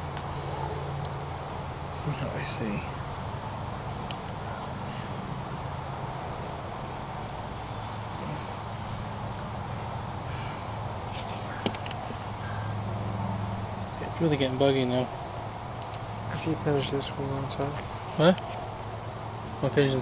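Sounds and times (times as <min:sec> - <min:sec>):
crickets chirping: 0:00.0 - 0:20.0
steady low hum: 0:00.0 - 0:20.0.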